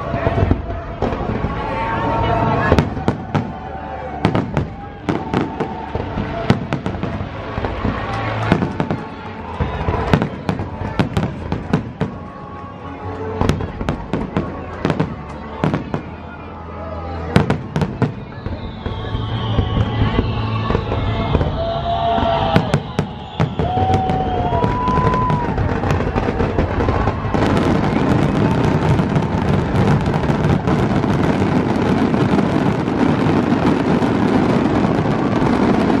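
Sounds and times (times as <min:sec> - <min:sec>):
fireworks bangs: 0:00.0 - 0:12.5, 0:17.4 - 0:36.0
fireworks crackling bursts: 0:00.0 - 0:16.4, 0:17.2 - 0:36.0.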